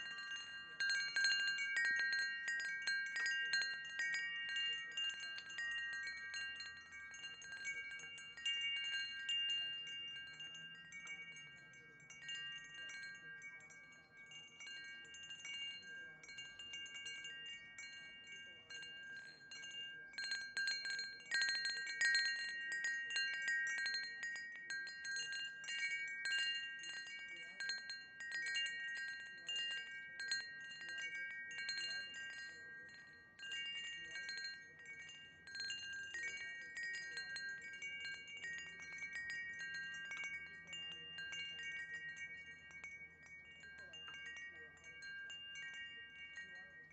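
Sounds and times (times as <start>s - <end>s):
wind chimes ringing: 0.0s - 46.9s.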